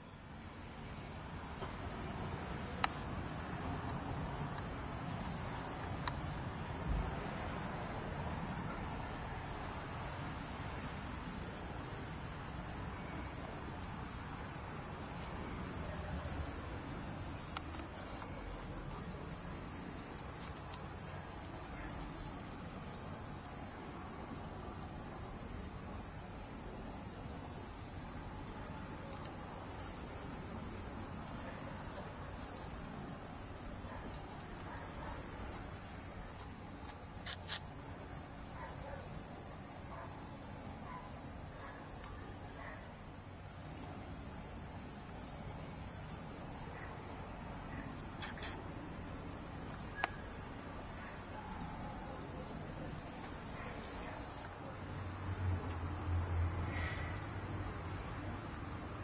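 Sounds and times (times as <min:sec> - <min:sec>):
crickets chirring: 0:00.0 - 0:59.0.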